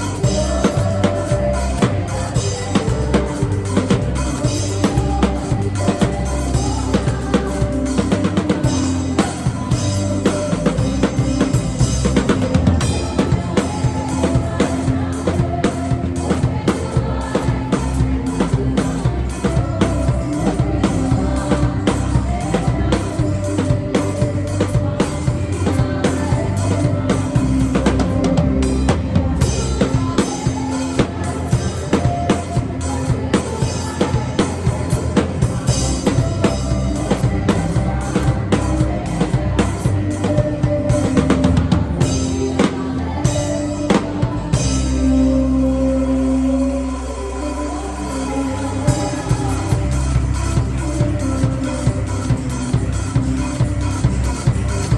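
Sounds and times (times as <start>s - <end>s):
drum kit playing fast beat: 0.0s - 54.9s
worship music sustained notes: 0.0s - 54.9s.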